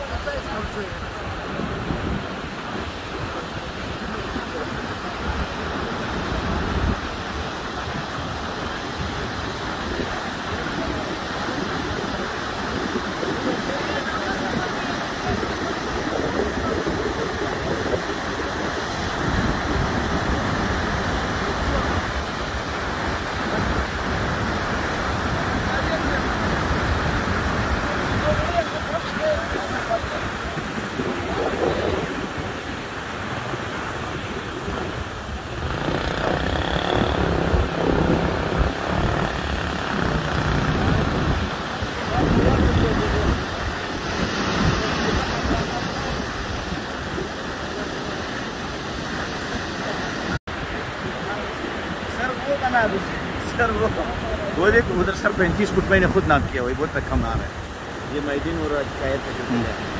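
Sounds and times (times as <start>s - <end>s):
wind buffeting microphone: 0.0s - 52.1s, 52.9s - 59.9s
floodwater rushing: 0.0s - 59.9s.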